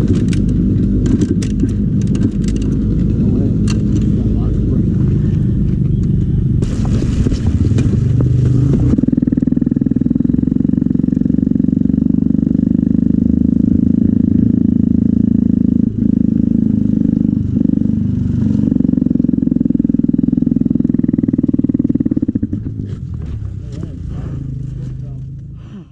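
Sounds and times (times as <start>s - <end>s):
dirt bike engine idling: 0.0s - 25.9s.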